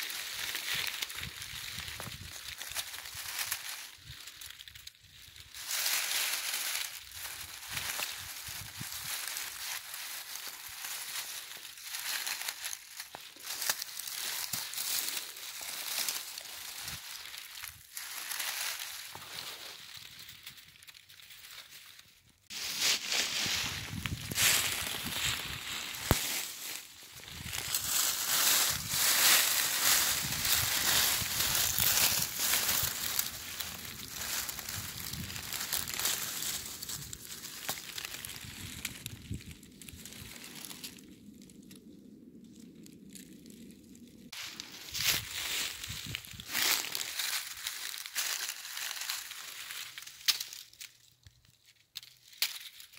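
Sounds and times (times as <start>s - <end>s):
dry leaves rustling and crackling: 0.0s - 41.8s, 42.5s - 52.9s.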